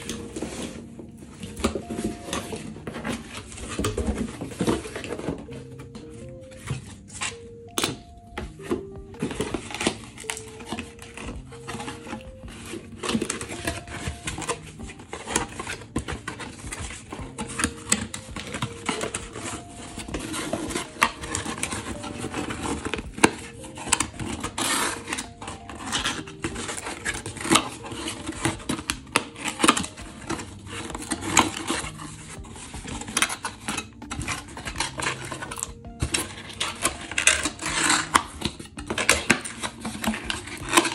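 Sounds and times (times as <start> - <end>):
cardboard boxes scraping and rustling: 0.0 - 40.9.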